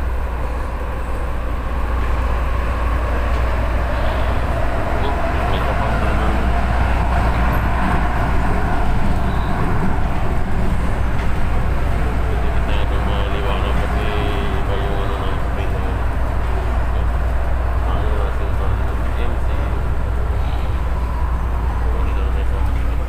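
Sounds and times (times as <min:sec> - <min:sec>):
train rumble from inside car: 0:00.0 - 0:23.0.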